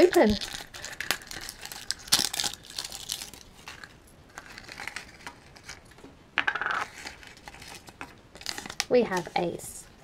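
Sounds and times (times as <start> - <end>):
plastic wrapper crinkling: 0.0 - 6.0, 6.8 - 9.6.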